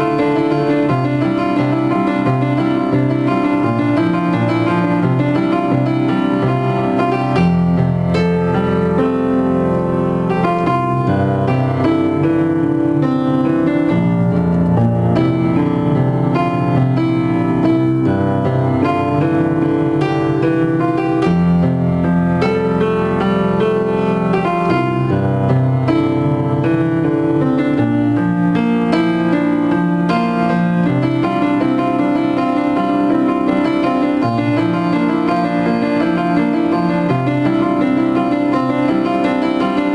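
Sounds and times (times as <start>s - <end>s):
piano piece: 0.0s - 39.9s.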